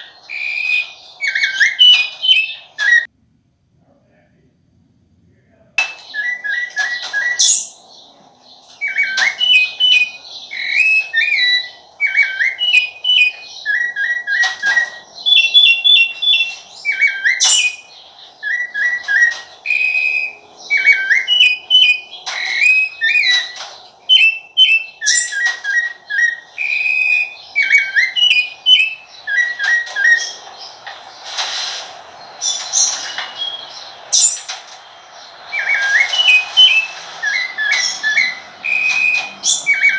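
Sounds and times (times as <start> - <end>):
thrush singing: 5.3 - 39.9.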